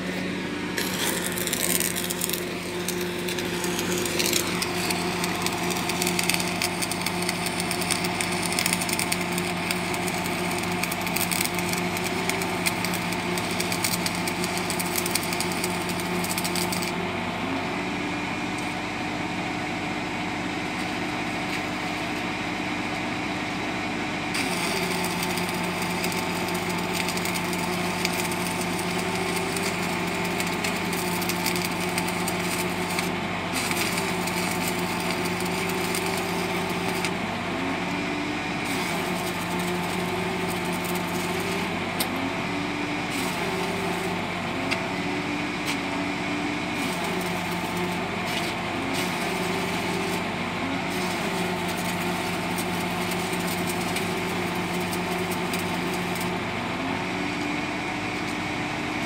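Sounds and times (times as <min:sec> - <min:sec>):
arc welding crackling: 0:00.0 - 0:17.3, 0:24.3 - 0:57.6
engine running: 0:00.0 - 0:59.0.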